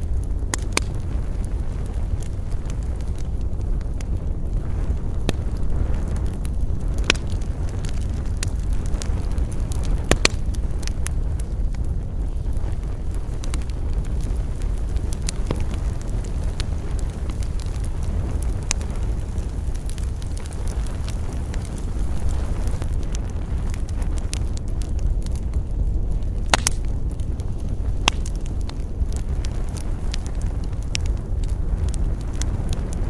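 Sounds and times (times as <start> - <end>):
fire crackling pops: 0.0 - 33.0
wood fire rumbling: 0.0 - 33.0.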